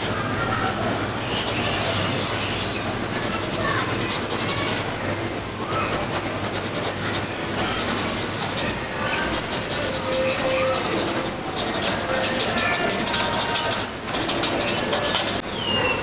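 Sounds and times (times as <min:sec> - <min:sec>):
pencil shading on paper: 0:01.3 - 0:15.4.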